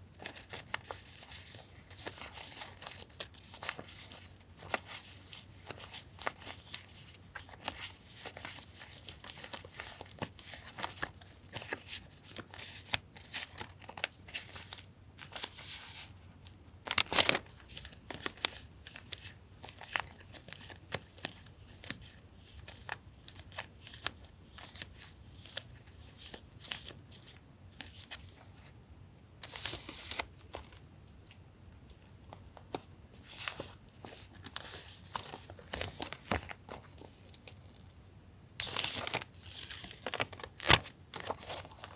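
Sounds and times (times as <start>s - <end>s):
paper crinkling and rustling: 0.1s - 28.7s, 29.4s - 38.0s, 38.6s - 41.9s.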